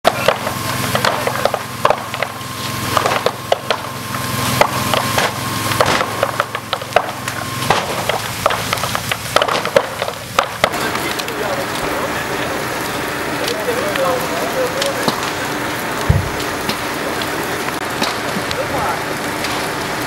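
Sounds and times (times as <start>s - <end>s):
fire crackling and popping: 0.0s - 20.0s
pump engine humming: 0.0s - 20.0s.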